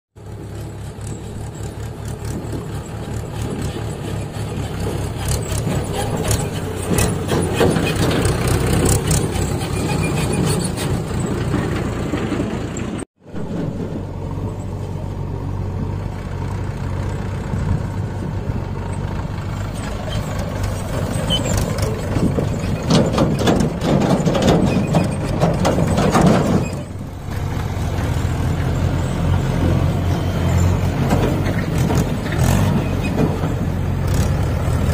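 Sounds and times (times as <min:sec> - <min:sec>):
tractor diesel engine running: 0:00.2 - 0:34.9
trailer rig rattling: 0:00.2 - 0:34.9.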